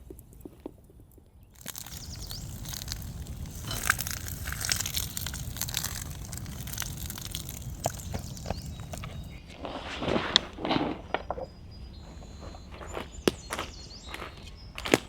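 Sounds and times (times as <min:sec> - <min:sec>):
footsteps crunching through twigs: 0:01.6 - 0:15.0.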